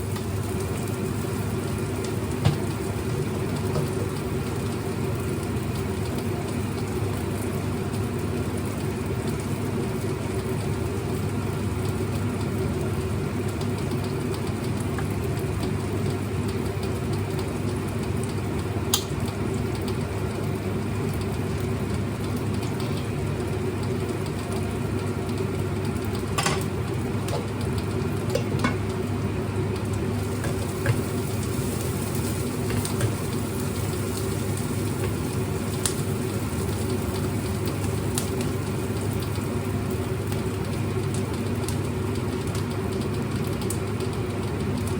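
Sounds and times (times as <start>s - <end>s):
low mechanical hum: 0.0s - 44.9s.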